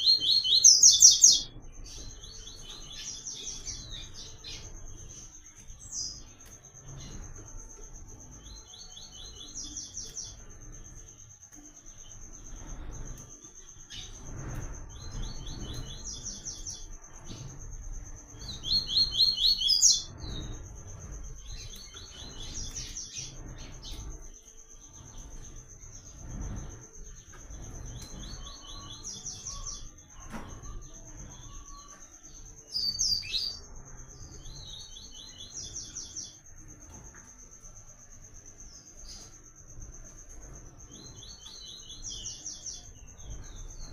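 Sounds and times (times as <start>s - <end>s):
steady high whine: 0.0s - 43.9s.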